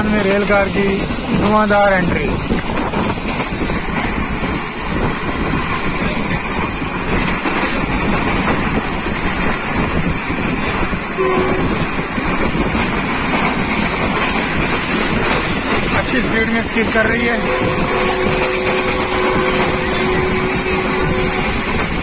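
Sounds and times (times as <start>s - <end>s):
train wheels on rail: 0.0s - 22.0s
wind noise: 0.0s - 22.0s.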